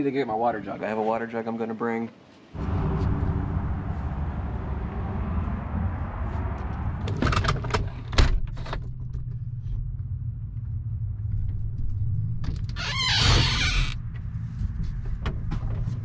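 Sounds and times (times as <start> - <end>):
truck engine low rumble: 2.6 - 16.0.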